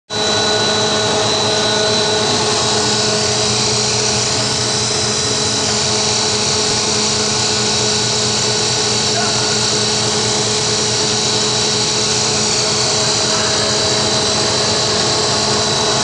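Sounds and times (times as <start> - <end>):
machine hum: 0.1 - 16.0
machine whine: 0.1 - 16.0.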